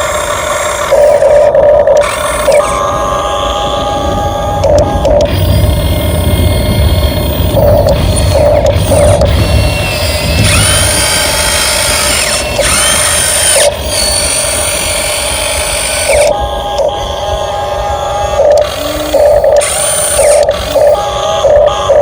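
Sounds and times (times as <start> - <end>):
toy truck electric motor whining: 0.0 - 22.0.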